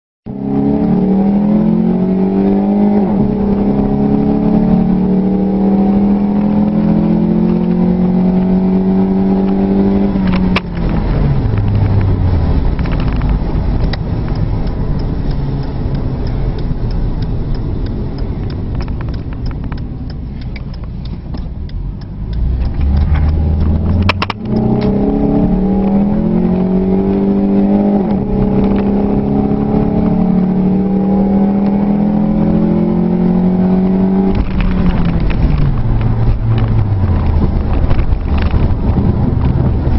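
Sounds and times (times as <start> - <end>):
car engine revving: 0.3 - 39.9.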